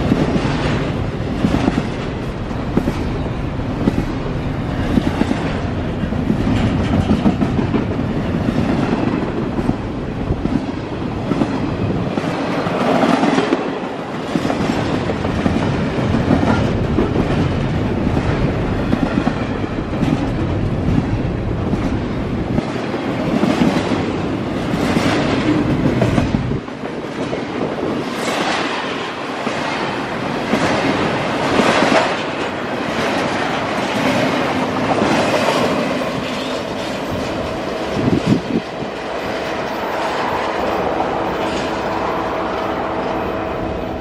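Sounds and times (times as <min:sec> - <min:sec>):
wheels clicking over rail joints: 0:00.0 - 0:42.0
freight train rumbling and rattling: 0:00.0 - 0:44.0.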